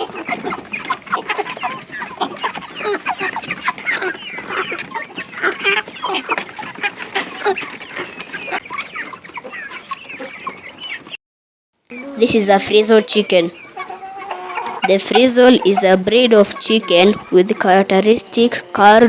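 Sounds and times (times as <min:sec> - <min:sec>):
chickens clucking: 0:00.0 - 0:11.2, 0:11.9 - 0:19.0.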